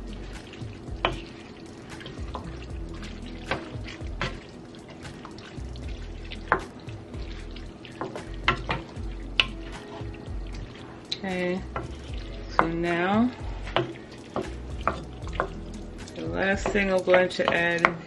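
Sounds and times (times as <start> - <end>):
soft background music: 0.0 - 18.0.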